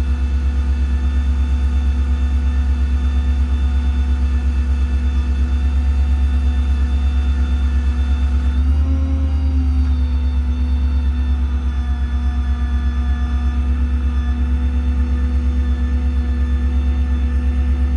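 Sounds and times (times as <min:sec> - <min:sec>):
hydraulic whine: 0:02.0 - 0:17.9.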